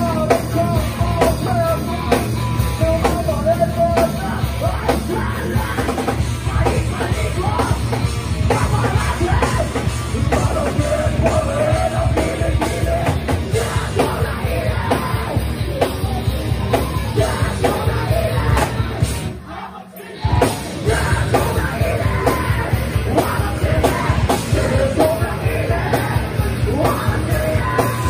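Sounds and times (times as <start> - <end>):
steady drum beat: 0.0 - 19.4, 20.2 - 28.0
rock music with shouted vocals: 0.0 - 28.0.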